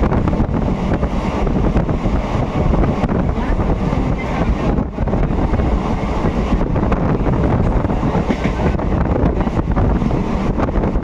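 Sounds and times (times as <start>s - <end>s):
train rumbling on rails: 0.0s - 11.0s
wind buffeting microphone: 0.0s - 11.0s.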